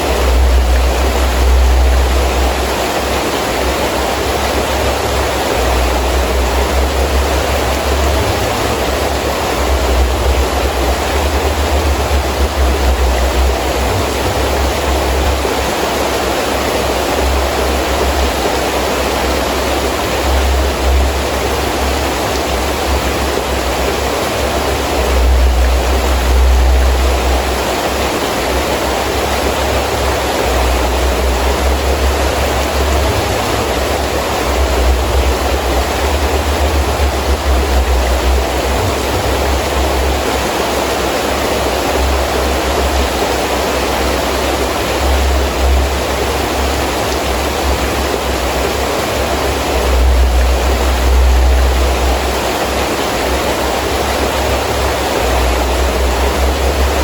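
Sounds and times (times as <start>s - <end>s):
gusting wind rumbling: 0.0s - 57.0s
heavy rain falling: 0.0s - 57.0s.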